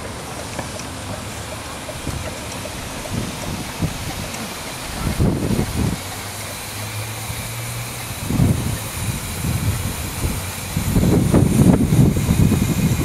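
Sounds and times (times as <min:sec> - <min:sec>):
steam locomotive running: 0:00.0 - 0:13.0.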